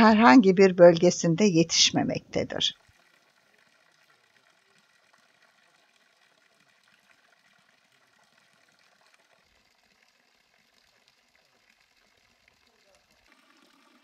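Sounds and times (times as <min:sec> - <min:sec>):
water trickling into trough: 0:01.5 - 0:14.0.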